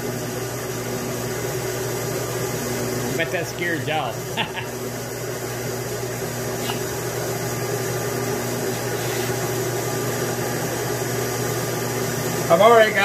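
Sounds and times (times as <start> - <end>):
milling machine hum: 0.0 - 13.0.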